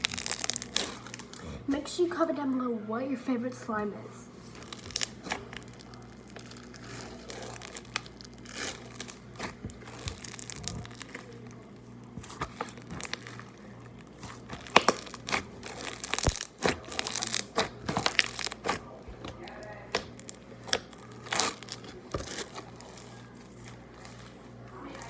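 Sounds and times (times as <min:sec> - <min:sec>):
slime crackling and popping: 0:00.0 - 0:01.4, 0:04.4 - 0:25.0.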